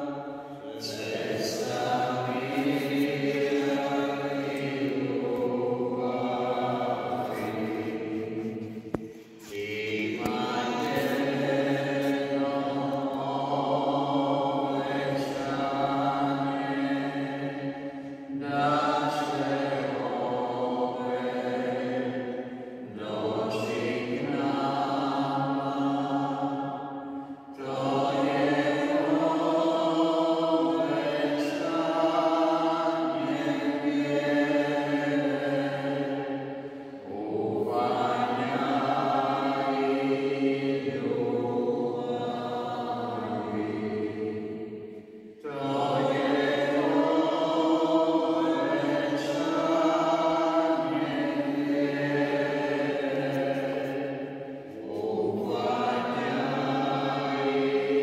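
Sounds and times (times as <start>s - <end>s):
choir singing slow chant: 0.0s - 58.0s.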